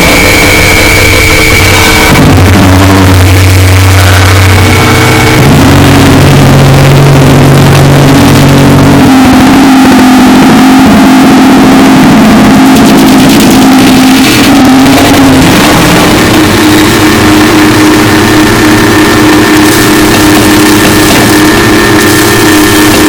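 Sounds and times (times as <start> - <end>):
distorted noise music: 0.0 - 23.0
steady drone: 0.0 - 23.0.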